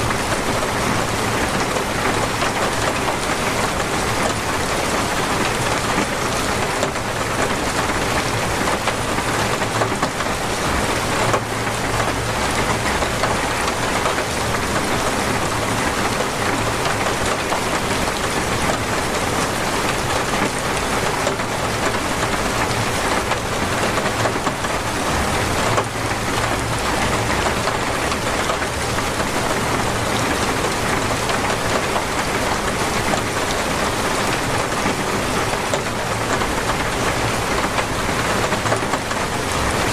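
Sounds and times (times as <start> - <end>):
torrential rain drumming: 0.0 - 39.9.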